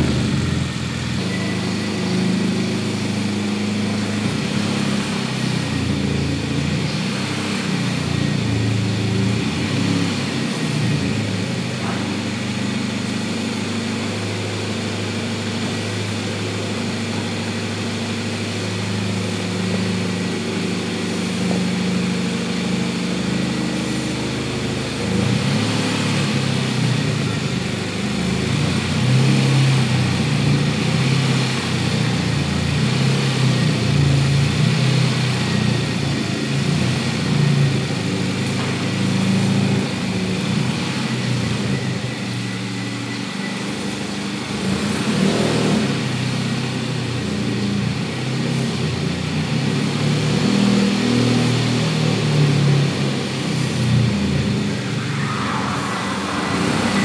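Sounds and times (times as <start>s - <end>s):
car engine at low revs: 0.0s - 57.0s.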